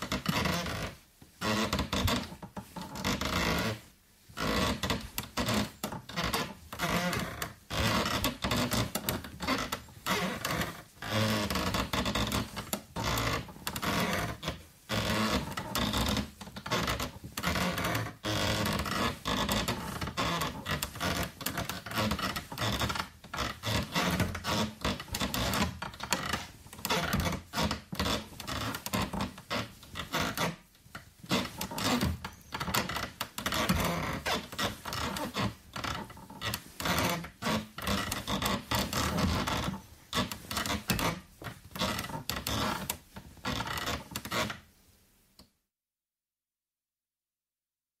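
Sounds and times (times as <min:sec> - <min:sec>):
wood creaking: 0:00.0 - 0:44.7.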